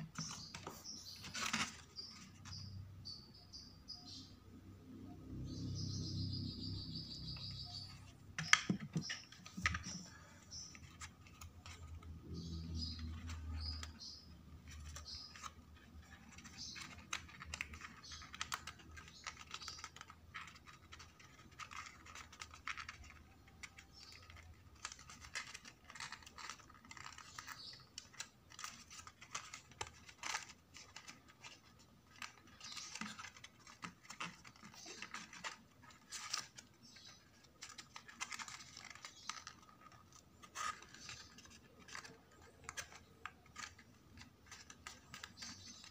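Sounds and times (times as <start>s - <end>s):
card paper crinkling: 0.0s - 2.7s, 7.2s - 45.9s.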